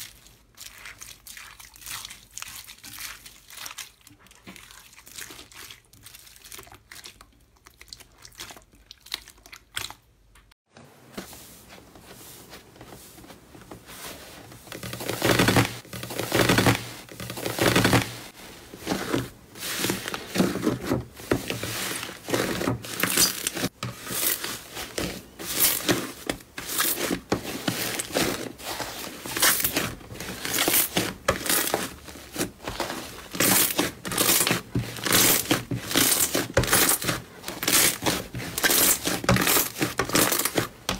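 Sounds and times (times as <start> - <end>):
slime squishing and crackling: 0.0 - 10.5, 14.7 - 40.9
faint slime crackles: 0.0 - 10.6, 11.7 - 40.9.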